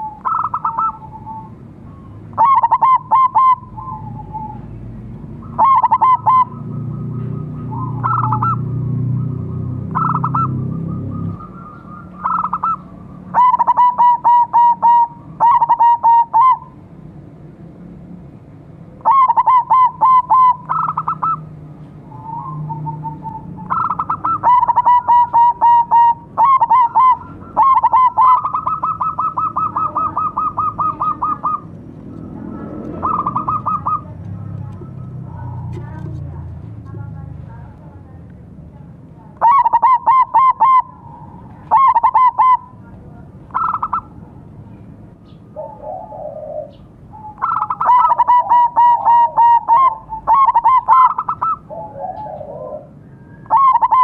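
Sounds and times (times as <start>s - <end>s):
doves cooing: 0.0s - 16.8s, 19.0s - 36.4s, 39.4s - 44.6s, 45.2s - 54.0s.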